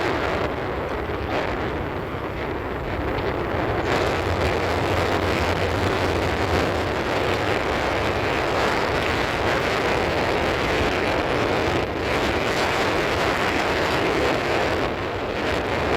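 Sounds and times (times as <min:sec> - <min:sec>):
vehicle road noise: 0:00.0 - 0:15.9
wind rushing over microphone: 0:00.0 - 0:15.9.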